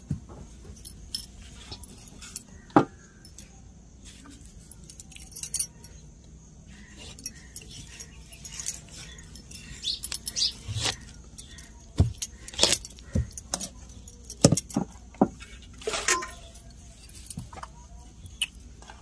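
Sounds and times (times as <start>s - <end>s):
glass bangles clinking: 0.6s - 17.6s.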